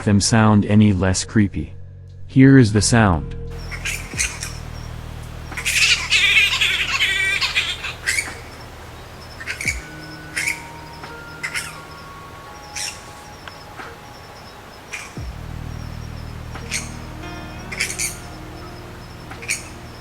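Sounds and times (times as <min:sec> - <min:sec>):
bats squeaking and chirping: 0:03.5 - 0:20.0.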